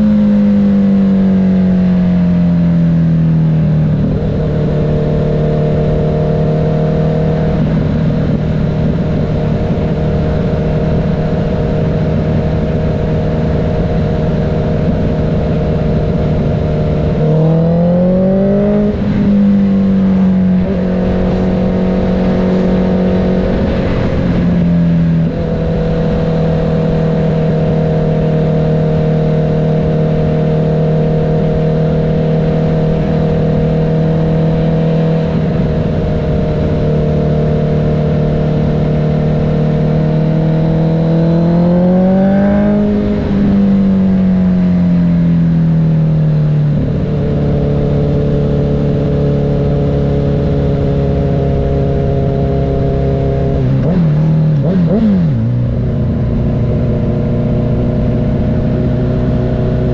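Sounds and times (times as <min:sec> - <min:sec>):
motorcycle engine running: 0:00.0 - 0:59.9
rush of wind: 0:00.0 - 0:59.9.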